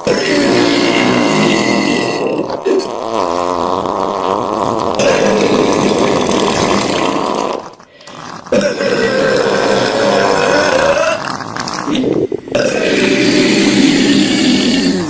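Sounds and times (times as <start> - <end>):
person burping: 0.0 - 7.8, 8.5 - 15.0.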